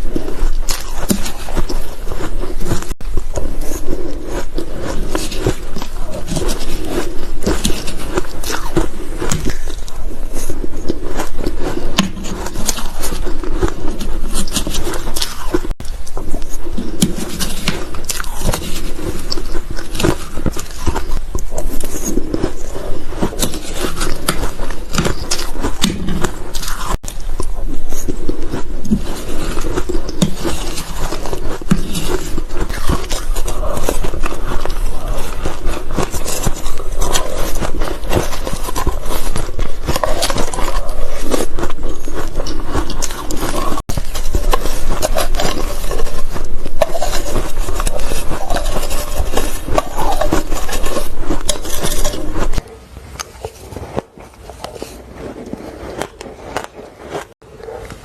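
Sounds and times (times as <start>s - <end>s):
ice crunching while chewing: 0.0s - 58.0s.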